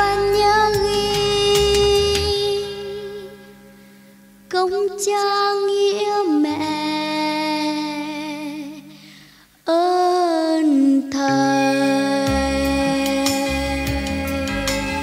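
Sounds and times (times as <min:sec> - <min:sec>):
high voice singing with vibrato: 0:00.0 - 0:03.9, 0:04.5 - 0:09.0, 0:09.6 - 0:15.0
soft musical accompaniment: 0:00.0 - 0:08.9, 0:09.7 - 0:15.0.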